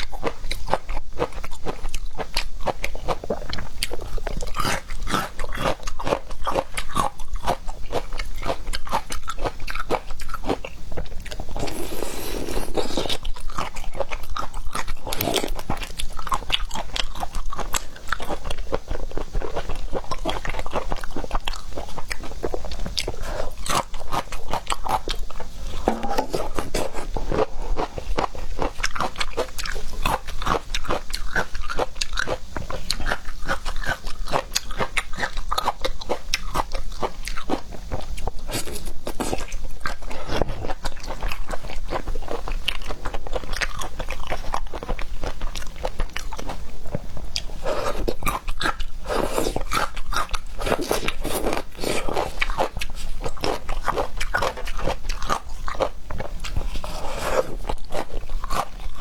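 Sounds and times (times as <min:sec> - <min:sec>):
chewing seafood with crunches: 0:00.0 - 0:59.0.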